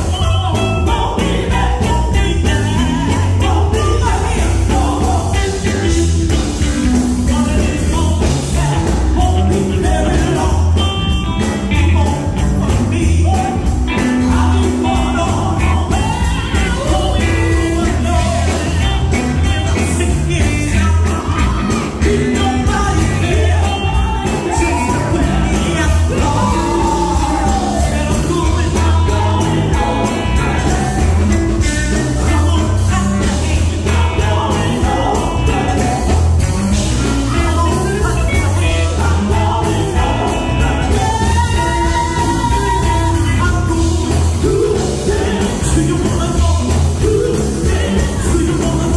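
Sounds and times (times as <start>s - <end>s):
electric guitar: 0.0s - 48.9s
gospel group singing: 0.0s - 48.9s
heavy bass beat: 0.0s - 48.9s.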